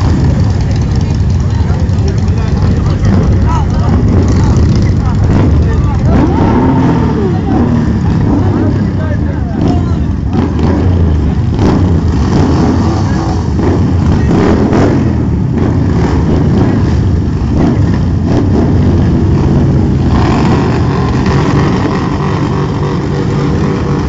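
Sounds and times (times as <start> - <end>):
motorcycle engine running loudly: 0.0 - 24.0.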